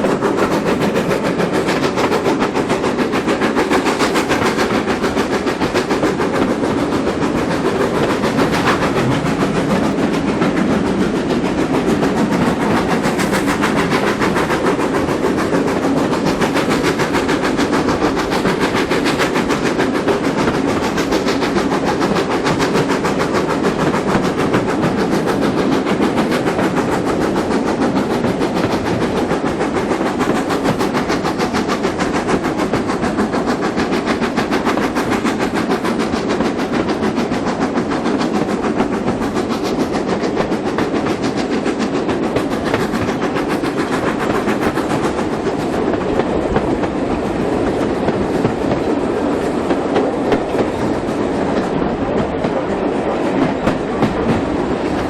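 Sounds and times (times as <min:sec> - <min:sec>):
rapid wheel clatter: 0:00.0 - 0:55.0
train wheels rumbling on rails: 0:00.0 - 0:55.0.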